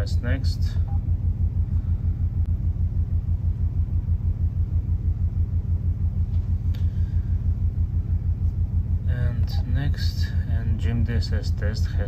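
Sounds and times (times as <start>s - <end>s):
ship machinery throbbing hum: 0.0s - 12.0s.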